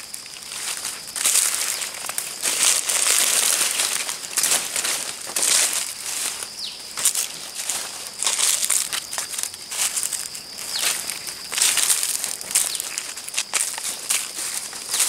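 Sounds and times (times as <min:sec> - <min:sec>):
footsteps crunching through dry leaves: 0:00.0 - 0:15.0.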